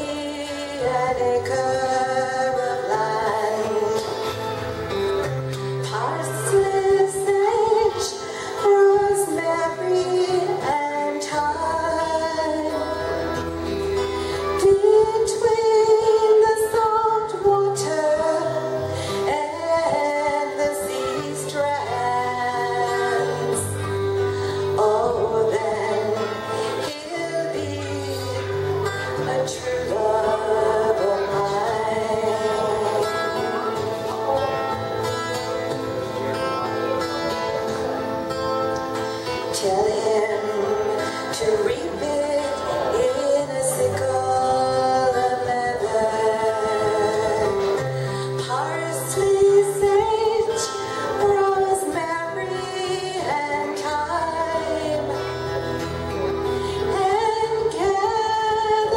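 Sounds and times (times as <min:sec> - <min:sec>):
woman singing into a microphone: 0:00.0 - 0:37.0, 0:38.3 - 0:58.9
acoustic guitar: 0:00.0 - 0:58.9.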